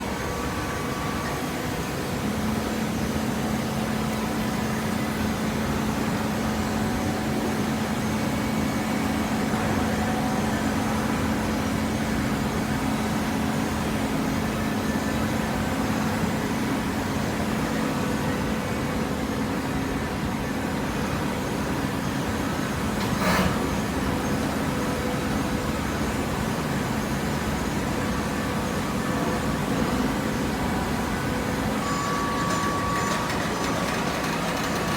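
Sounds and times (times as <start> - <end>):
heavy machinery running: 0.0 - 34.9.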